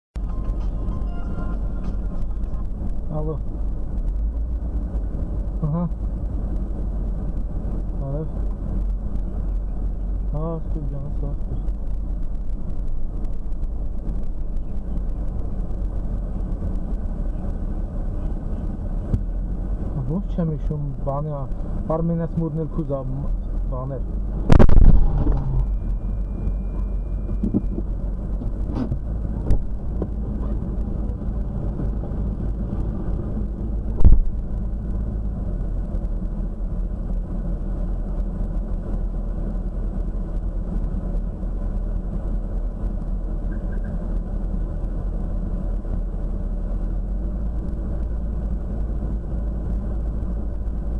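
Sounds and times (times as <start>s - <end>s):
car interior low rumble: 0.2s - 50.9s.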